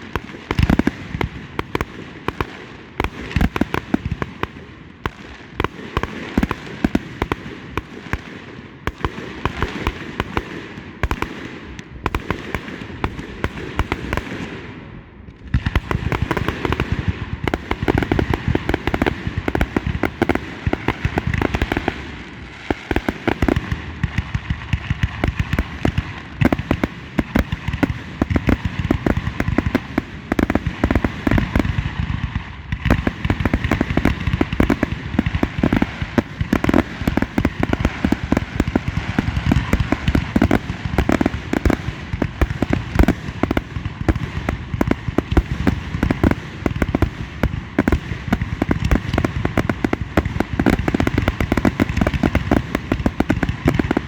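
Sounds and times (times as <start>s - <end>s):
fireworks explosions: 0.0s - 54.0s.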